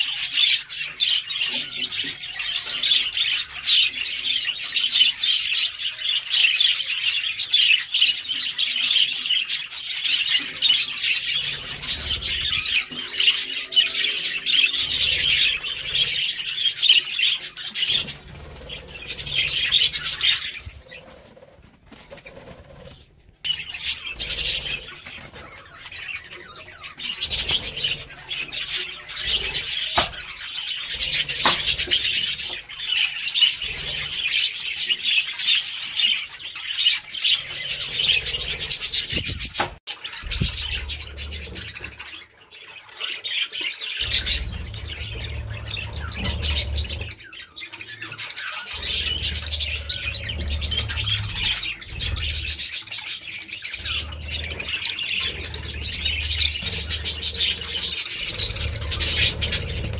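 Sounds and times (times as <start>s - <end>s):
budgerigars chattering: 0.0s - 21.5s, 22.1s - 59.9s.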